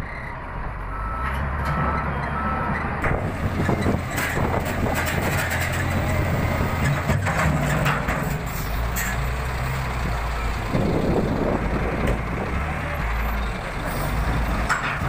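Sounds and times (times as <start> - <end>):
wheel loader diesel engine: 0.0 - 15.0.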